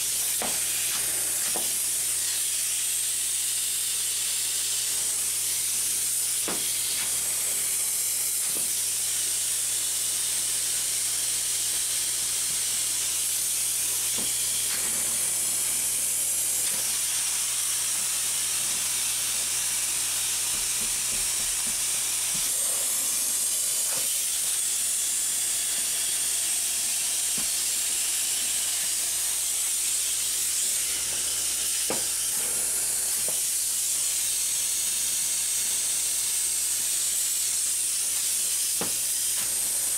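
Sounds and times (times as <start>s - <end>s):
spray foam gun hissing: 0.0s - 39.9s.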